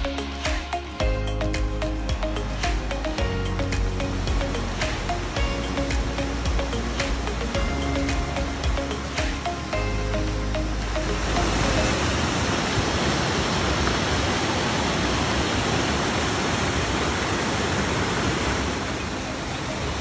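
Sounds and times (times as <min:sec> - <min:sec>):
waterfall rushing over rocks: 0:00.0 - 0:20.0.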